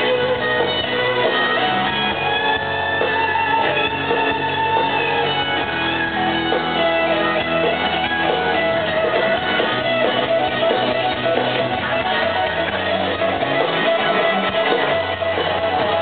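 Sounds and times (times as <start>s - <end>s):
electric guitar sliding notes: 0.0s - 16.0s
live country-rock band: 0.0s - 16.0s.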